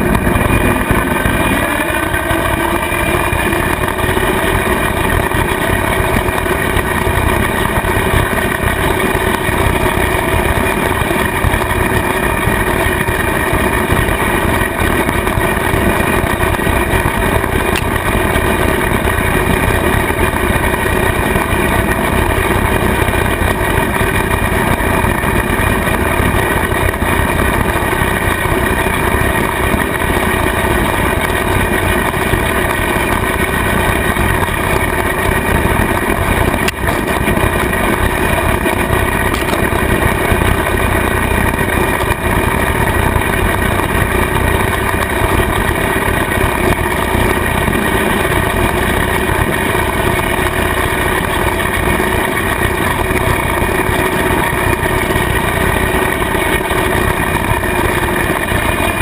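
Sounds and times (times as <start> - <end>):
tractor diesel engine and mower drone: 0.0 - 59.0.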